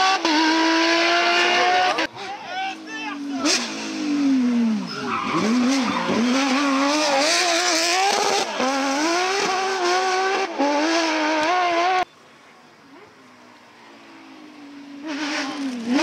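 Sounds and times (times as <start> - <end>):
rally car engine revving high: 0.0 - 12.1, 13.9 - 16.0.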